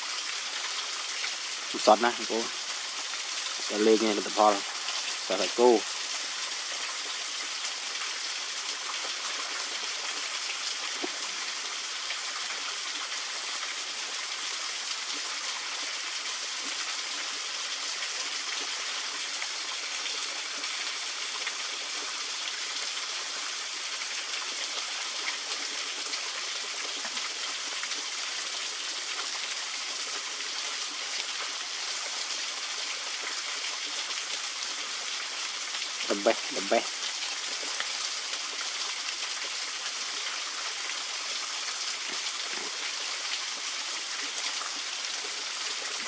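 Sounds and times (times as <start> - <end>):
small waterfall rushing: 0.0 - 46.0.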